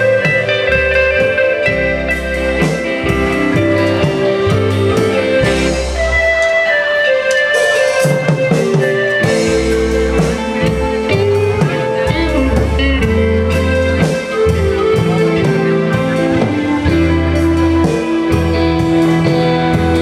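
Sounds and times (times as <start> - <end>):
electric guitar: 0.0 - 20.0
live band playing: 0.0 - 20.0.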